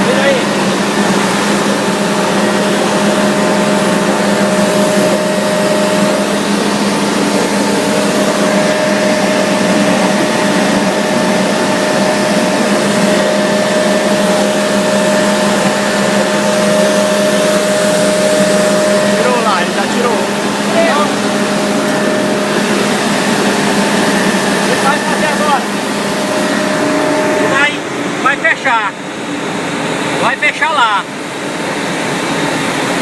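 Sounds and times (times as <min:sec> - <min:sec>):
high steady whine: 0:00.0 - 0:33.0
industrial machinery rushing: 0:00.0 - 0:33.0.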